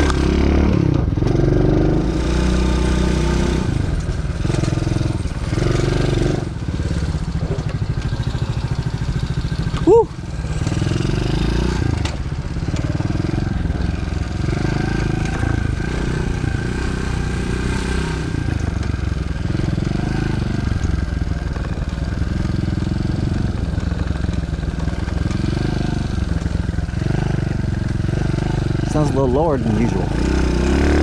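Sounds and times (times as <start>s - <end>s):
motorbike engine revving: 0.0s - 31.0s.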